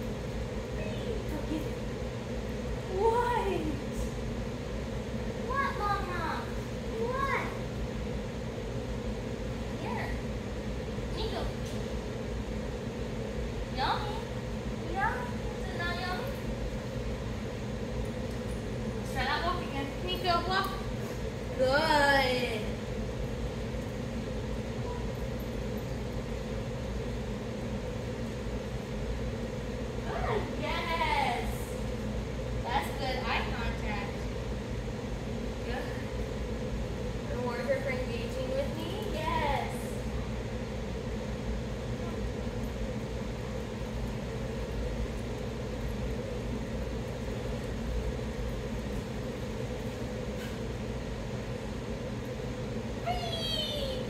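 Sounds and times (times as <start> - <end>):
low hum: 0.0 - 54.0
room background hiss: 0.0 - 54.0.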